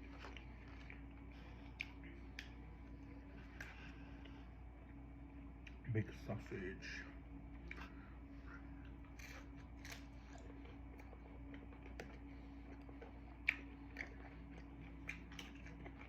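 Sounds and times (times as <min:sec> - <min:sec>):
person chewing pizza: 0:00.0 - 0:16.0
steady low hum: 0:00.0 - 0:16.0.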